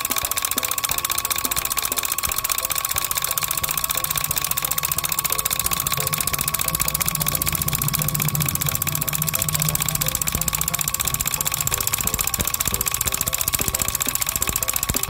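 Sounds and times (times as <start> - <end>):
constant whine: 0.0 - 15.0
small diesel engine chugging: 0.0 - 15.0.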